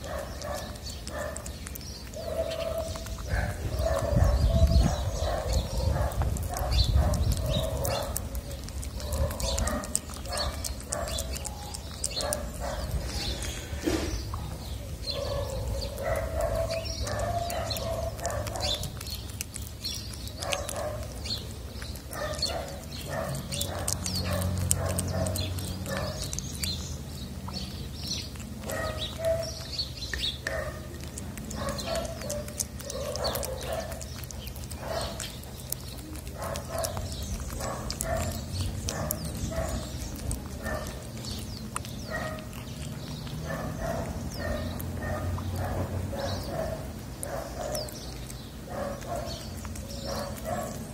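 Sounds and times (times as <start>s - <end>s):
cat chewing wet food: 0.0s - 50.9s.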